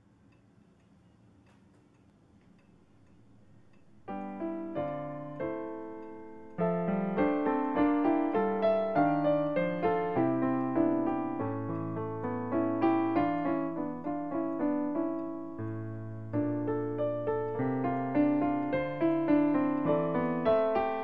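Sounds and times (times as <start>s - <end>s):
solo piano music: 4.0s - 21.0s.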